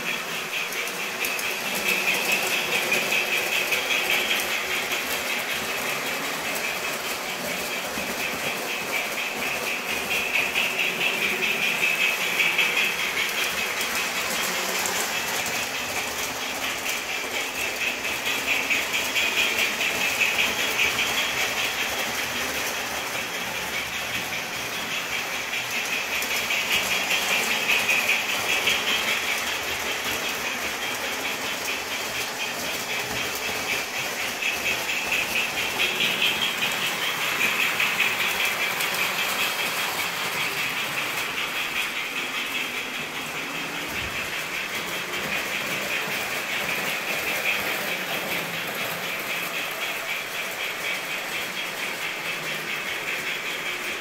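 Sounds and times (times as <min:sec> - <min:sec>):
model trains clattering on rails: 0:00.0 - 0:54.0.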